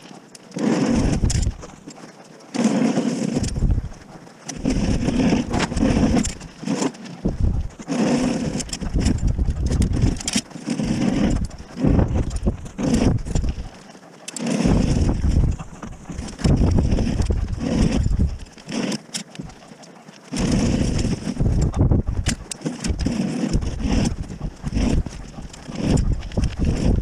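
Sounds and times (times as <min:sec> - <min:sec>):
snow pusher scraping packed snow: 0:00.0 - 0:27.0.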